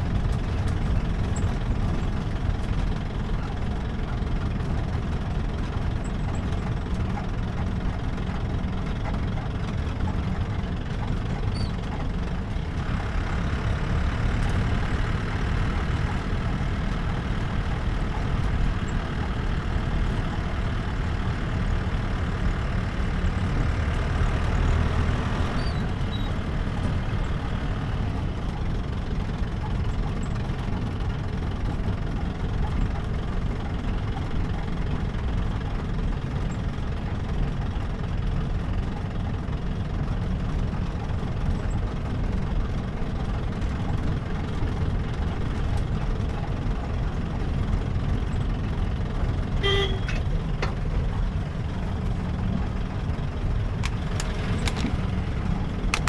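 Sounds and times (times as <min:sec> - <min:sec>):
car engine running: 0:00.0 - 0:56.0
road rumble: 0:00.0 - 0:56.0.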